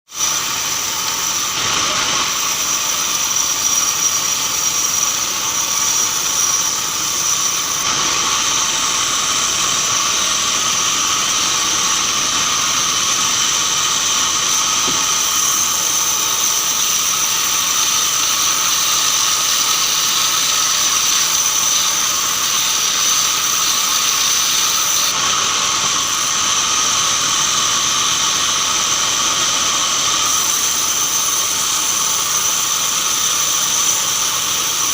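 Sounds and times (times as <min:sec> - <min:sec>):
band sawmill whining: 0:00.1 - 0:34.9.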